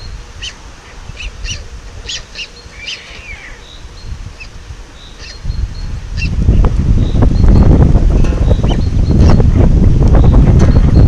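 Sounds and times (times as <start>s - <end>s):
songbirds chirping: 0.0s - 11.0s
wind rumble on microphone: 0.0s - 11.0s.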